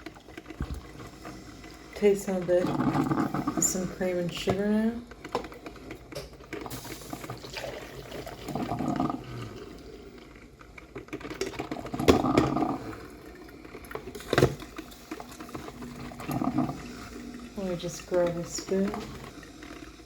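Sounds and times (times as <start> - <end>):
coffee pouring into mug: 0.0 - 20.0.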